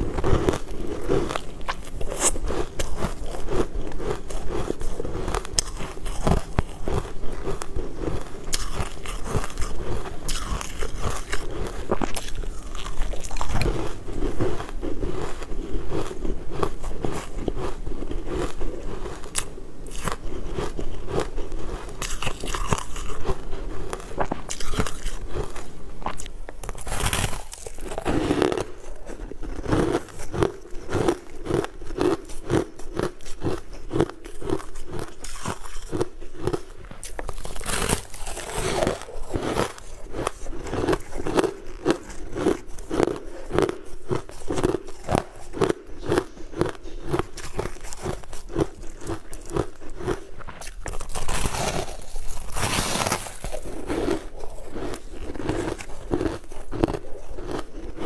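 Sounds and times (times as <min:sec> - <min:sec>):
chewing ice crunches: 0:00.0 - 0:58.0
ice crunching bites: 0:00.0 - 0:58.0.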